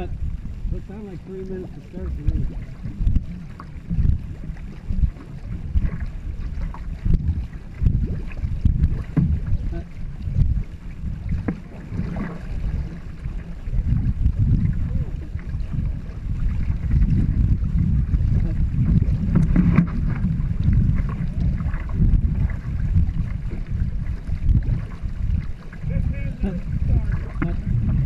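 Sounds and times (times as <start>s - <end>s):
paddles splashing water: 0.0s - 28.0s
wind noise on microphone: 0.0s - 28.0s.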